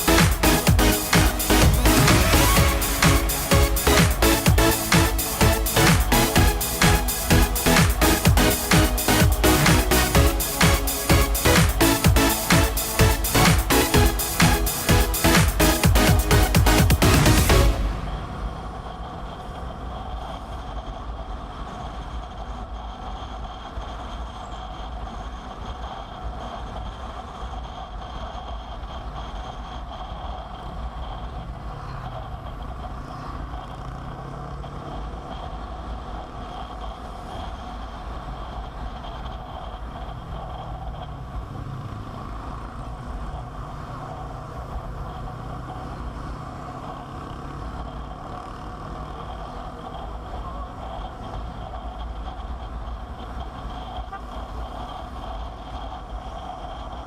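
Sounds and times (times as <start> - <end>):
motorcycle engine hum: 0.0 - 57.0
road noise: 0.0 - 57.0.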